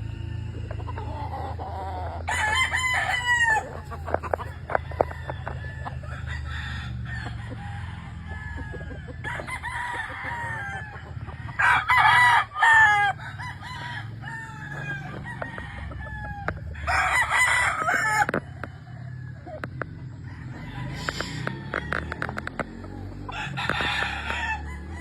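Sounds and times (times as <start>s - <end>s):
roosters crowing: 0.0s - 25.0s.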